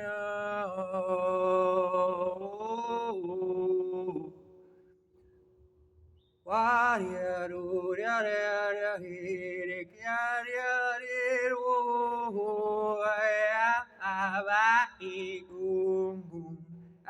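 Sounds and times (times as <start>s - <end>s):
person singing a capella: 0.0s - 4.5s, 6.5s - 17.0s.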